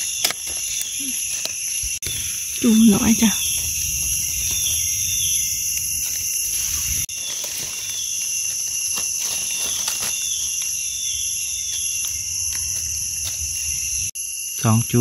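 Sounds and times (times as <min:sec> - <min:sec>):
dry leaves rustling: 0:00.0 - 0:14.1
high-pitched insect chorus: 0:00.0 - 0:15.0.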